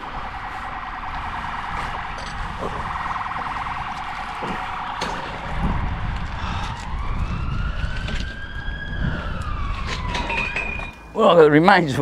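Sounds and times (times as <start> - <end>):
emergency vehicle siren: 0.0 - 11.2.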